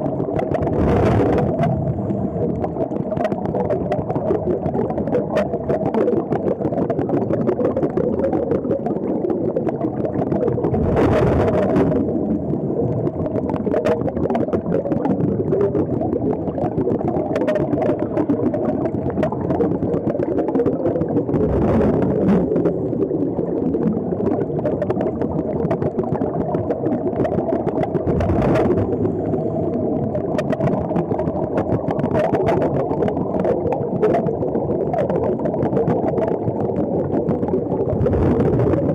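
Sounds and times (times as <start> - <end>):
engine drone underwater: 0.0 - 38.9
rushes of bubbles: 0.0 - 38.9.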